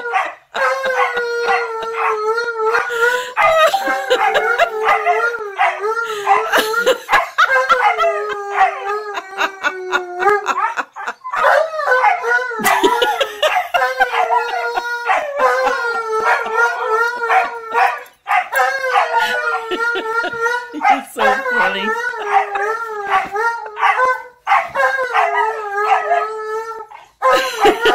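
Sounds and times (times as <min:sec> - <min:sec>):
dogs howling: 0:00.0 - 0:27.9.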